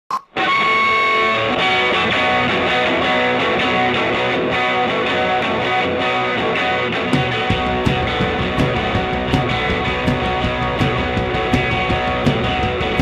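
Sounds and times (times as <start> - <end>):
guitar background music: 0.3 - 13.0.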